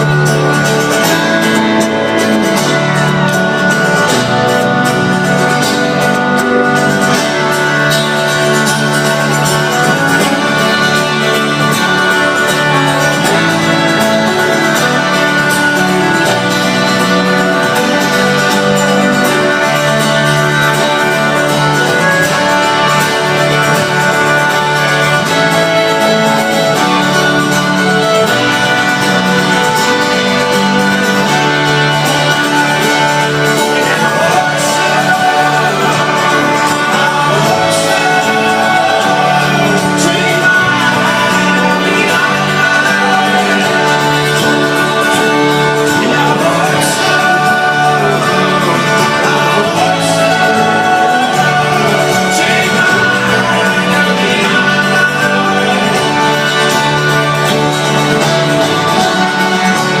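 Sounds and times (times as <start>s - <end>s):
acoustic guitars: 0.0s - 60.0s
fiddle: 0.0s - 60.0s
folk-rock band playing: 0.0s - 60.0s
steady bass line: 0.0s - 60.0s.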